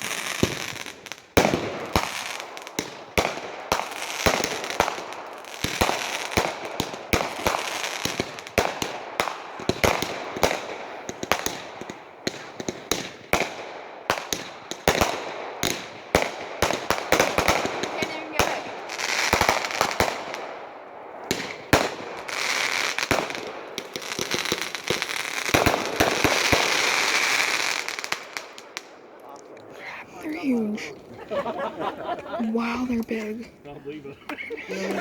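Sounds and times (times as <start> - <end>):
fireworks bangs: 0.0 - 33.6
fireworks crackling: 0.0 - 35.0.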